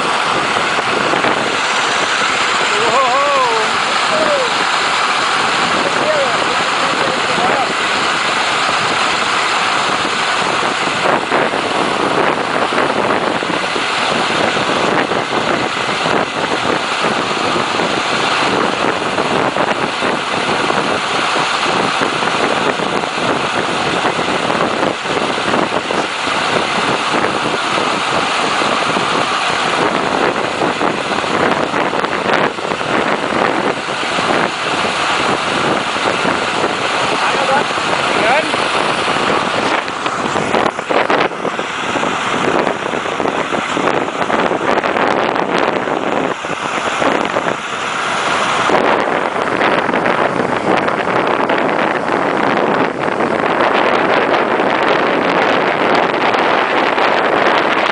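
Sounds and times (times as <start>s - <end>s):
ice boat runners and wind rushing: 0.0s - 57.9s.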